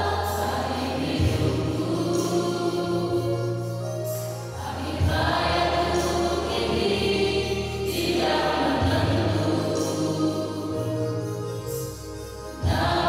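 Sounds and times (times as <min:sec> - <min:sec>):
choir singing a gospel hymn: 0:00.0 - 0:13.0.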